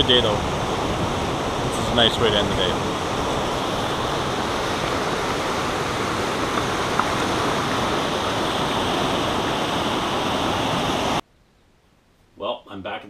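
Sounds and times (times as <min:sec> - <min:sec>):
whitewater rushing over rocks: 0:00.0 - 0:11.2.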